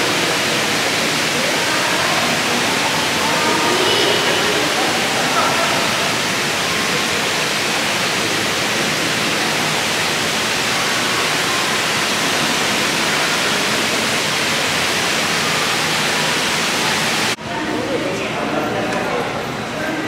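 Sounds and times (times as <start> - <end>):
falling water rushing: 0.0 - 20.0.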